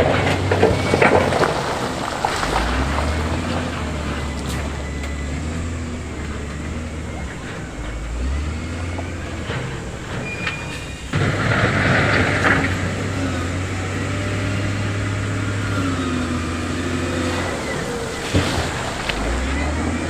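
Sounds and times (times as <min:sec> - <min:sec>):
diesel engine running: 0:00.0 - 0:20.0
loud harsh machine noise: 0:00.0 - 0:20.0.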